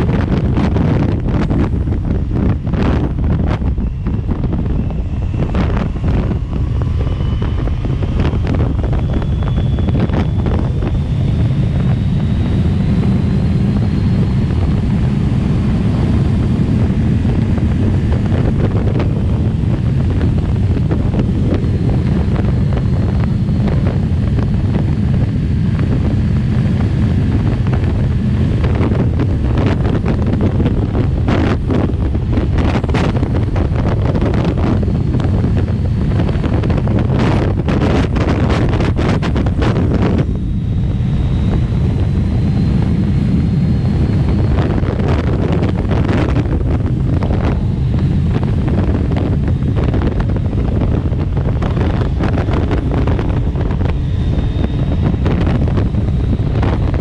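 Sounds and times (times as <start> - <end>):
heavy wind rush on microphone: 0.0 - 57.0
thin whine rising in pitch: 0.0 - 57.0.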